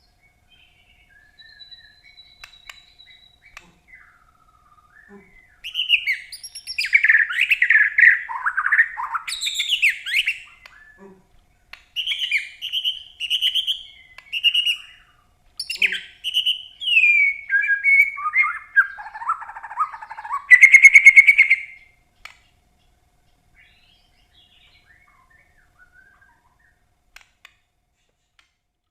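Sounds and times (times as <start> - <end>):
songbird singing: 0.0 - 27.6.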